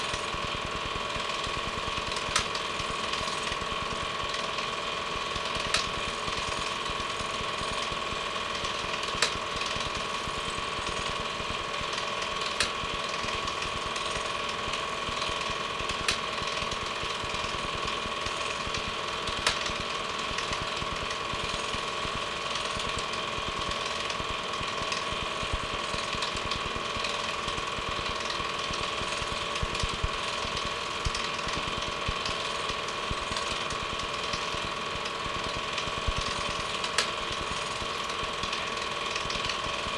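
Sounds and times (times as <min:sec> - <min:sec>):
film projector clatter: 0:00.0 - 0:39.9.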